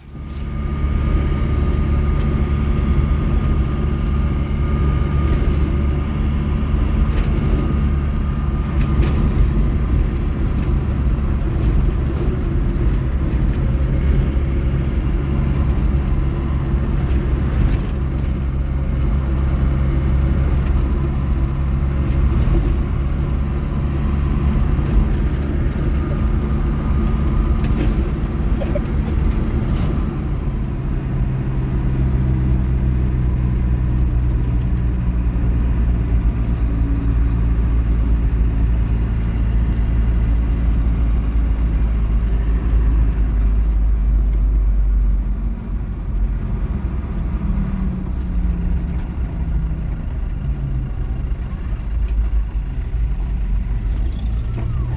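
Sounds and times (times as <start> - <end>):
car engine and road noise: 0.0 - 54.9.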